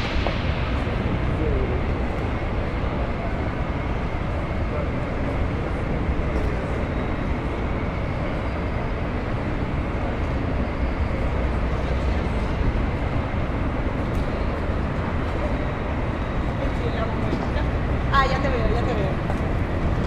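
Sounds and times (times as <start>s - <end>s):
faint high whine: 0.0s - 20.0s
train rumbling: 0.0s - 20.0s.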